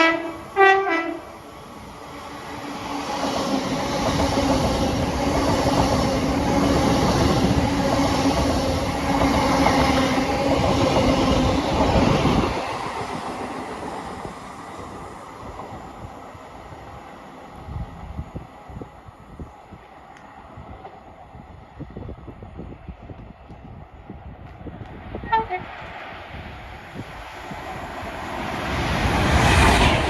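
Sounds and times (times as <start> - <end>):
trains passing at speed: 0.0 - 30.0.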